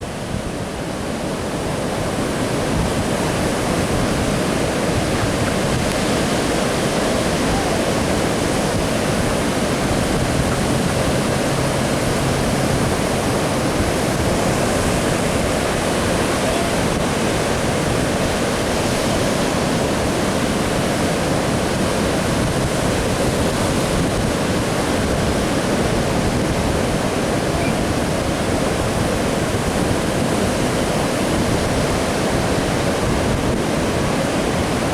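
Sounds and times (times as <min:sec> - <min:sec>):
surf rushing: 0:00.0 - 0:34.9.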